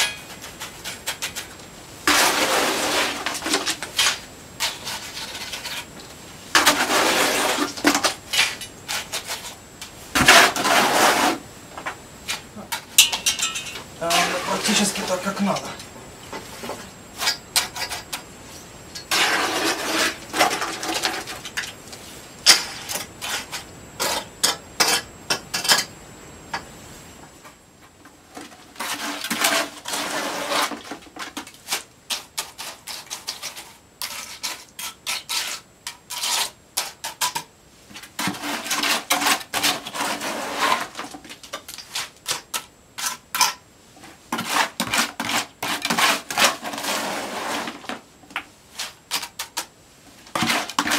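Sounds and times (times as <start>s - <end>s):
mortar scraping: 0.0s - 11.4s, 12.2s - 25.4s, 28.4s - 48.0s, 48.7s - 50.9s.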